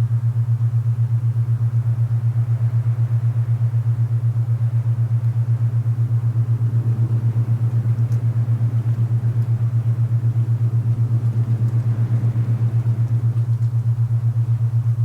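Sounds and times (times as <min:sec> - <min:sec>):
pulsing low hum: 0:00.0 - 0:15.0
soft wind noise: 0:02.3 - 0:15.0.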